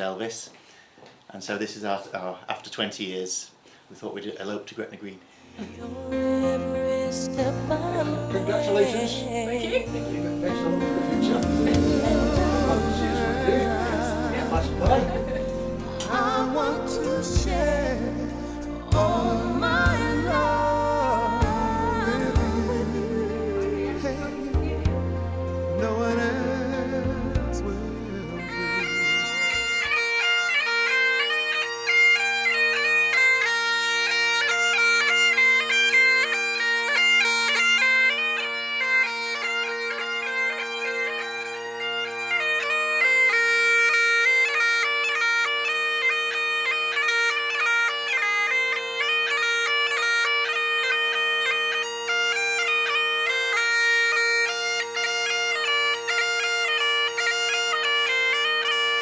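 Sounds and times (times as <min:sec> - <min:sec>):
bagpipes playing a tune: 0:06.1 - 0:59.0.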